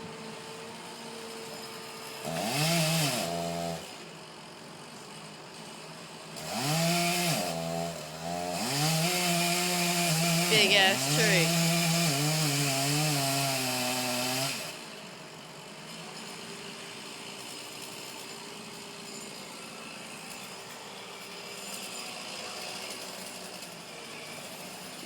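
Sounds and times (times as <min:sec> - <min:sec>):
chainsaw running at high revs: 0:00.1 - 0:25.0.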